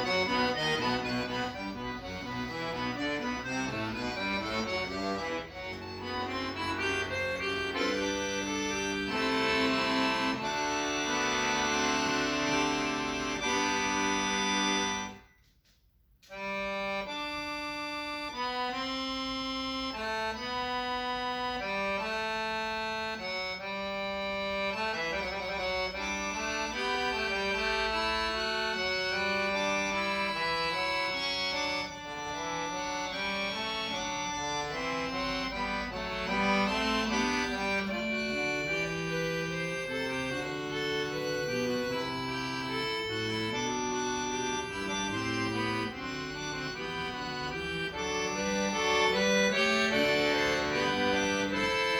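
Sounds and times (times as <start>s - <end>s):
accordion playing: 0.0s - 51.9s.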